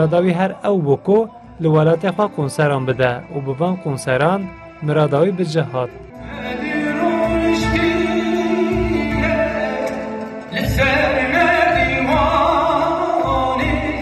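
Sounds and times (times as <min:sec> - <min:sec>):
instrumental accompaniment: 0:00.0 - 0:14.0.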